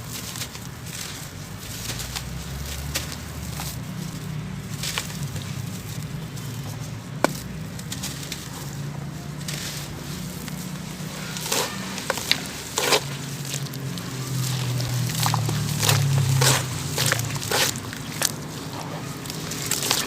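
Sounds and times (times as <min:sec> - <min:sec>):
cement chunks crunching: 0:00.0 - 0:20.0.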